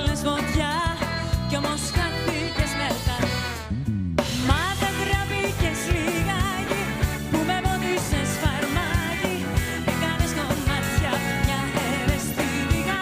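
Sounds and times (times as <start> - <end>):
woman singing: 0.0 - 3.6, 4.5 - 13.0
live pop band playing: 0.0 - 13.0.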